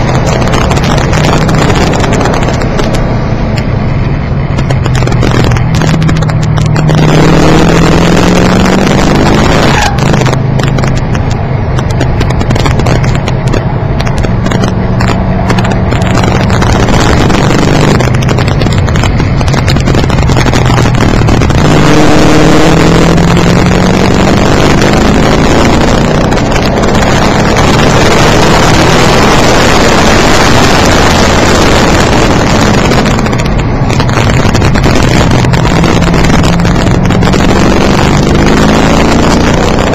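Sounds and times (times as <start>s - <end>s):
car engine revving: 0.0s - 39.9s
road noise: 0.0s - 39.9s.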